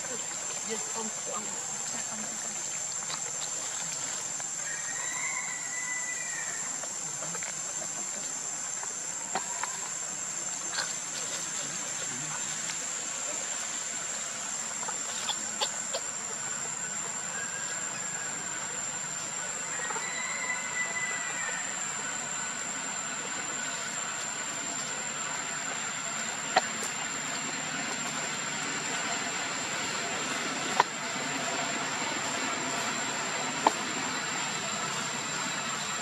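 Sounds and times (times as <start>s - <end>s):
outdoor background hiss: 0.0s - 36.0s.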